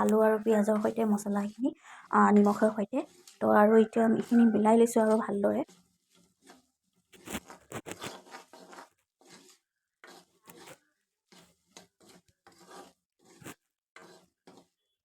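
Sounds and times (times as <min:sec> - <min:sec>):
spatula scraping a pan: 0:00.0 - 0:14.9.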